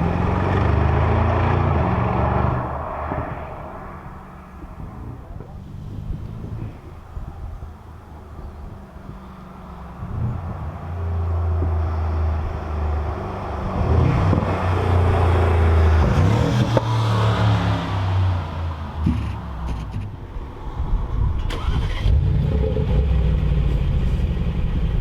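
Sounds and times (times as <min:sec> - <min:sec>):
car engine exhaust rumble: 0:00.0 - 0:25.0.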